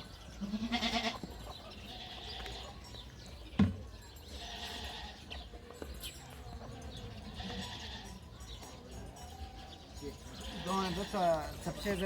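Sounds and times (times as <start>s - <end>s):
faint livestock flock: 0.0s - 12.0s.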